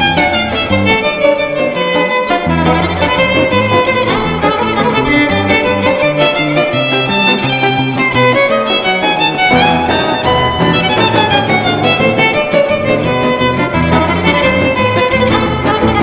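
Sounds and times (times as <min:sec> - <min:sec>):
pulsing low accompaniment: 0:00.0 - 0:16.0
violin playing quick melody: 0:00.0 - 0:16.0.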